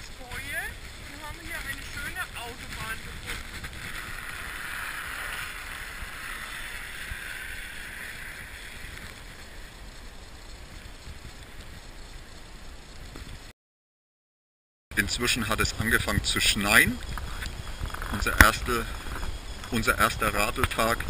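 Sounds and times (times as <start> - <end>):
wind rushing over microphone: 0.0 - 12.0, 15.0 - 21.0.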